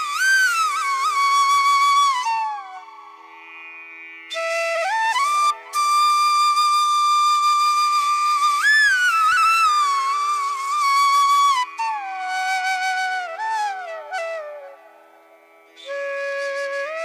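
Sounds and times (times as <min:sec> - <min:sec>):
flute playing sliding notes: 0:00.0 - 0:03.4, 0:04.3 - 0:17.0.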